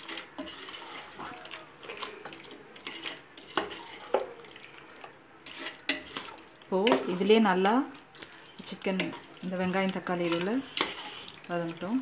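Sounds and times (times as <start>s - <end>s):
spoon stirring wet mixture: 0.0s - 12.0s.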